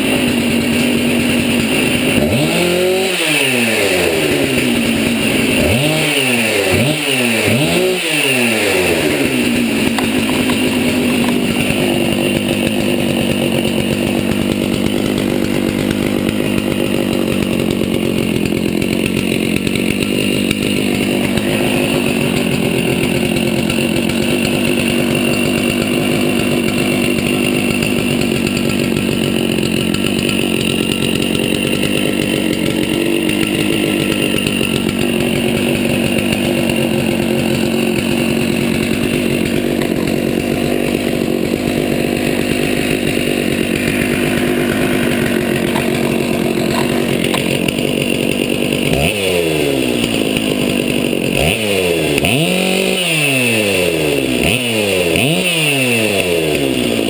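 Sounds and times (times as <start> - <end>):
chainsaw running and revving: 0.0 - 57.0.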